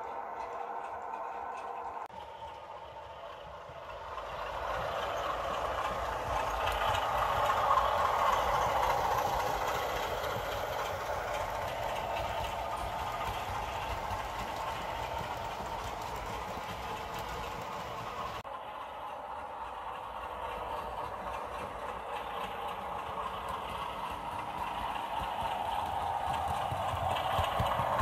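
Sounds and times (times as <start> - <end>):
model train wheels rattling: 0.0 - 28.0.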